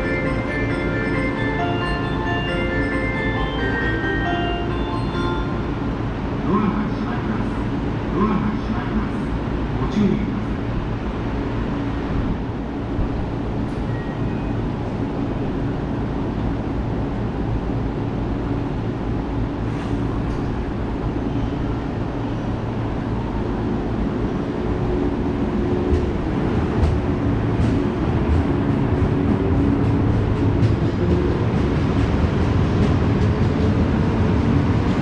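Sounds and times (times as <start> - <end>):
electric train rumble: 0.0 - 35.0.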